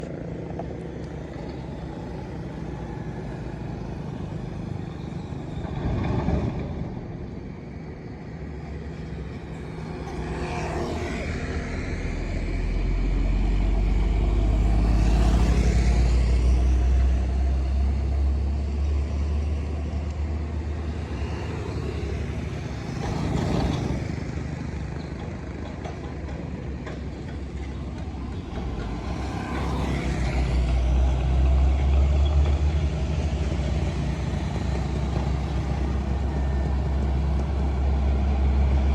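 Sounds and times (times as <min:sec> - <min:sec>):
heavy trucks driving past: 0:00.0 - 0:38.9.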